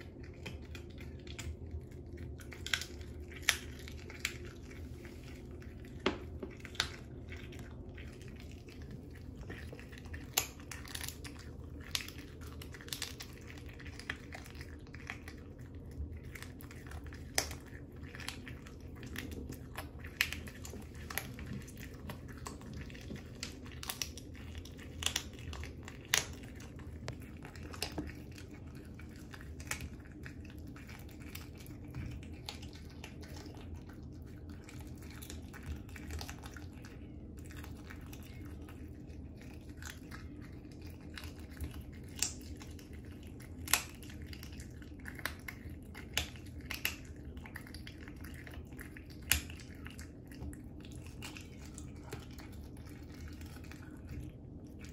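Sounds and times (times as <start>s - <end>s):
cat chewing bone: 0.0s - 54.9s.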